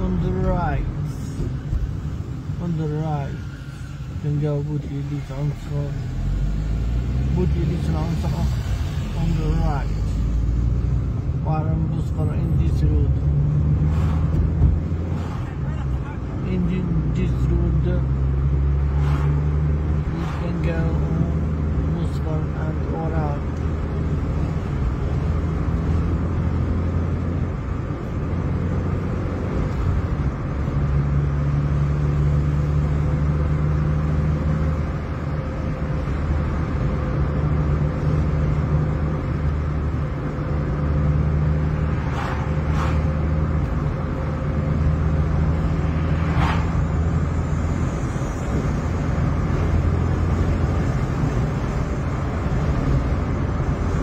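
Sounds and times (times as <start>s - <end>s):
car engine and road drone: 0.0s - 54.0s.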